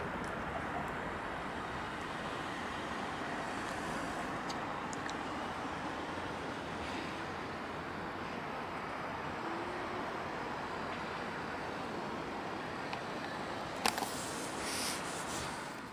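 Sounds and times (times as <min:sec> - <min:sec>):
jet engines at takeoff: 0:00.0 - 0:15.9.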